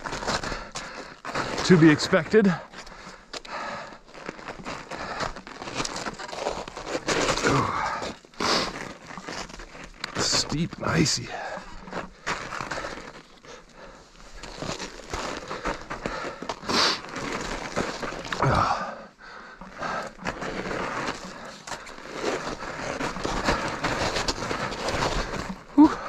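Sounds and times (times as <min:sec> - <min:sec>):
bike tyres crunching on ice: 0:00.0 - 0:26.0.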